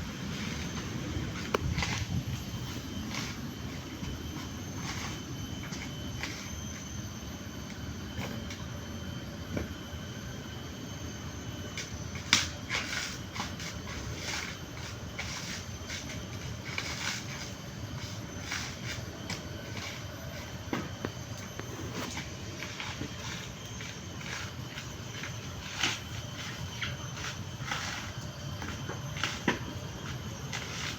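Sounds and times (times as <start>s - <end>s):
coconut husk scraping and tearing: 0.0s - 6.9s, 11.7s - 30.9s.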